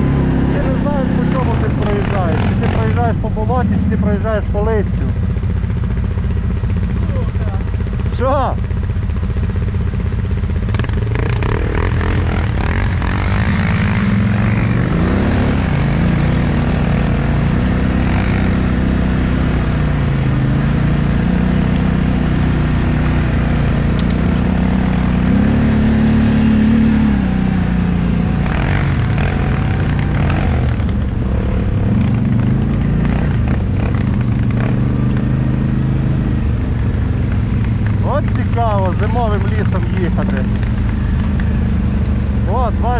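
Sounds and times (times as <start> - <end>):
quad bike engine revving: 0.0 - 42.9.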